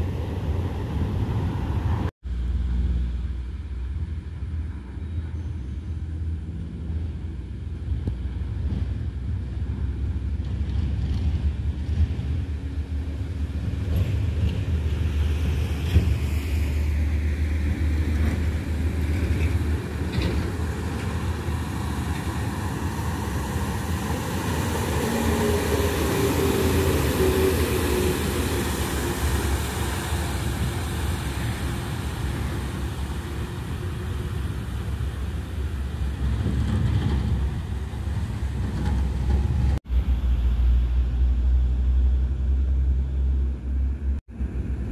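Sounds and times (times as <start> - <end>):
heavy diesel truck engines: 0.0 - 44.9
road noise: 0.0 - 44.9
truck passing: 6.1 - 44.9.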